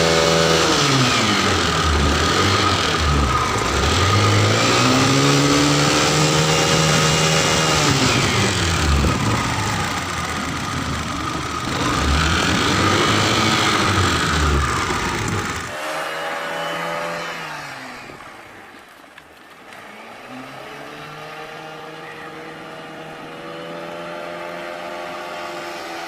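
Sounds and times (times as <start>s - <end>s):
scooter engine revving: 0.0s - 18.2s, 19.9s - 26.0s.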